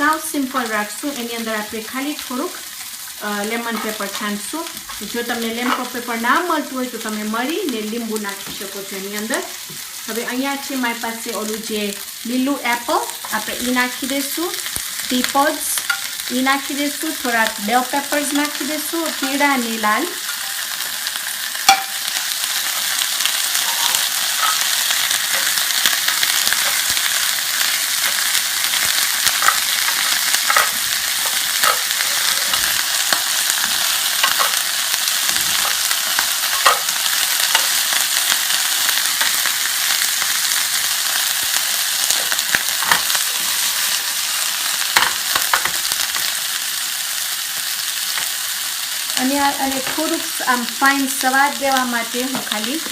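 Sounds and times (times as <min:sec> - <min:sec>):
vegetables sizzling in oil: 0:00.0 - 0:52.9.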